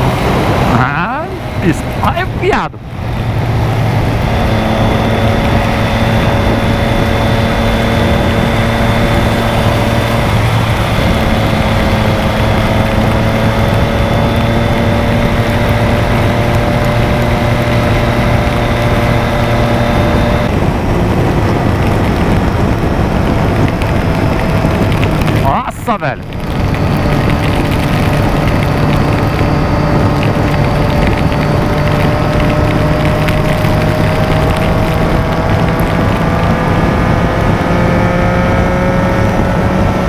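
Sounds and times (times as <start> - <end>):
motorcycle engine cruising: 0.0 - 40.0
road noise: 0.0 - 40.0
wind noise: 0.0 - 40.0.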